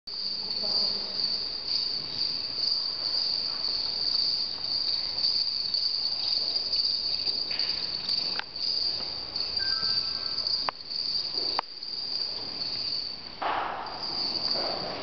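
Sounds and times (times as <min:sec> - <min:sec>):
insect chorus shrilling: 0:00.1 - 0:15.0.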